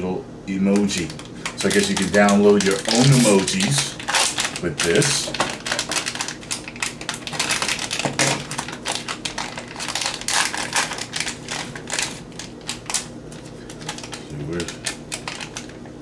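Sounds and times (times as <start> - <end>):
shiny packet crinkling and crackling: 1.0 - 15.8.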